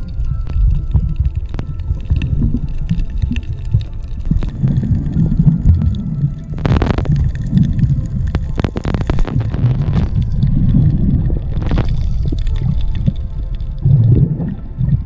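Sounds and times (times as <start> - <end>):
crackling rushing water: 0.0 - 15.0
muffled underwater rumble: 0.0 - 15.0.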